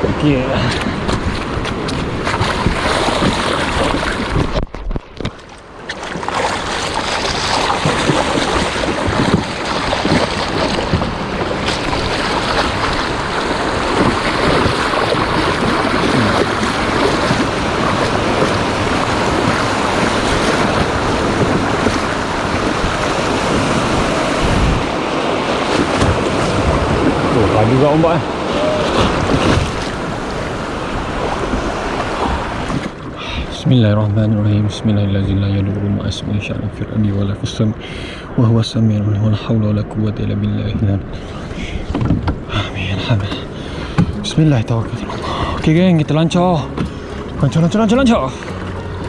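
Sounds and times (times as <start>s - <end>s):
sea waves rushing on shore: 0.0s - 49.0s
wind buffeting microphone: 0.0s - 49.0s.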